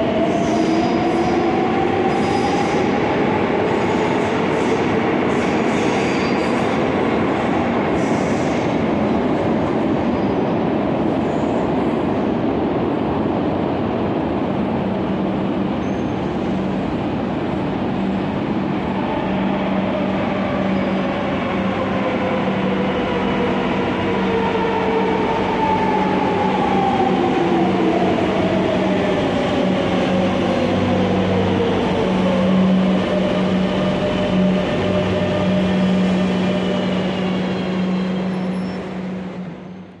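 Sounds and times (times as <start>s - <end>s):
low train hum: 0.0s - 40.0s
train wheels on rail: 0.0s - 40.0s.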